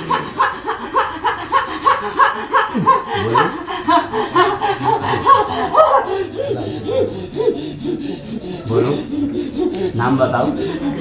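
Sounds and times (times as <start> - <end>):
person huffing rhythmically: 0.0 - 11.0.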